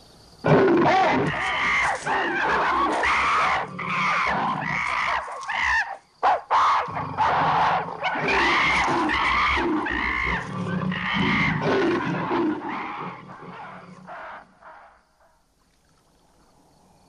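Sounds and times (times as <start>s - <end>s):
ape-men hooting and shrieking: 0.5s - 14.4s.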